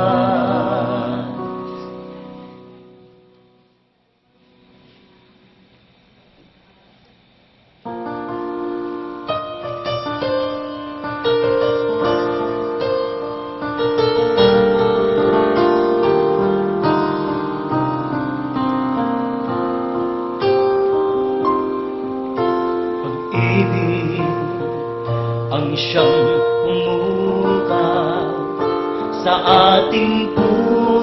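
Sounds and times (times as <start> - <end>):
slow piano chords and melody: 0.0 - 3.8, 7.8 - 31.0.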